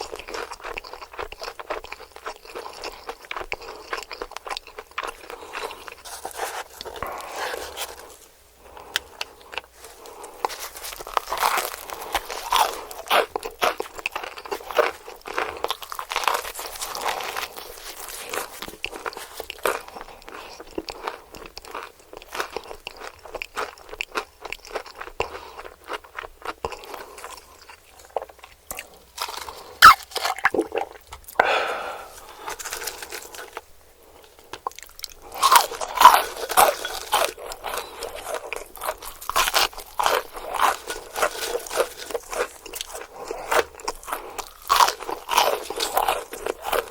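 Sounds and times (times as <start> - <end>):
chewing crispy fried chicken: 0.0 - 46.9.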